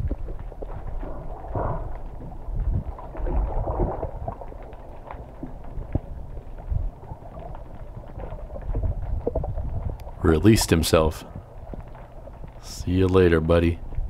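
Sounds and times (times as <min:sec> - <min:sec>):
faint gurgles: 0:00.0 - 0:14.0
muffled underwater water rumble: 0:00.0 - 0:14.0.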